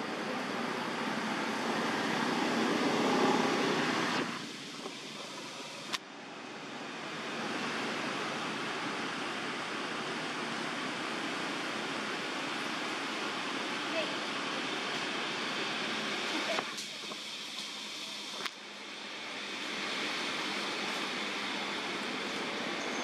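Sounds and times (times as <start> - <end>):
rushing outdoor ambient noise: 0.0 - 23.0.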